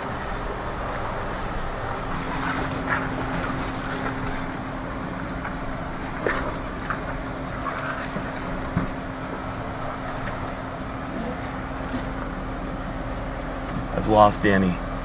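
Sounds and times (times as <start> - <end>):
engine low hum: 0.0 - 15.0.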